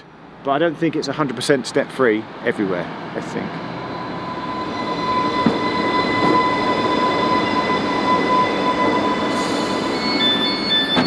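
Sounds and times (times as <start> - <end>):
electric train high whine: 0.0 - 11.0
train wheels rumbling: 0.0 - 11.0.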